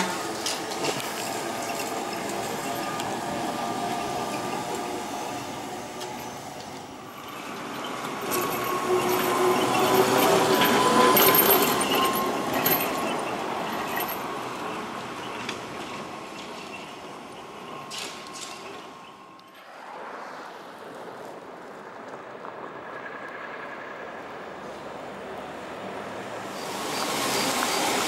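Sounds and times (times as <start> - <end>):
tyre and road noise: 0.0 - 28.0.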